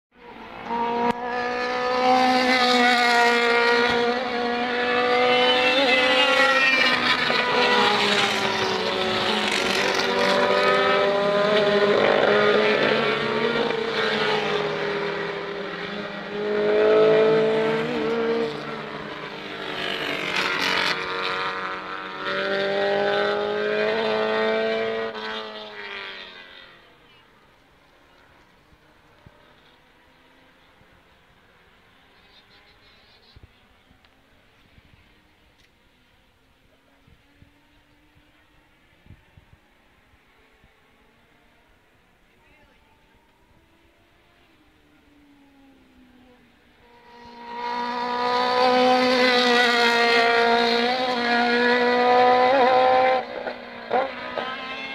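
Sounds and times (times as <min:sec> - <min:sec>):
race car engines at full throttle: 0:00.1 - 0:54.9.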